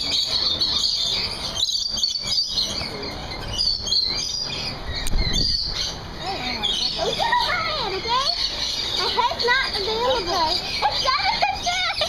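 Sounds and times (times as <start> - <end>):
lorikeets chattering and screeching: 0.0 - 12.0.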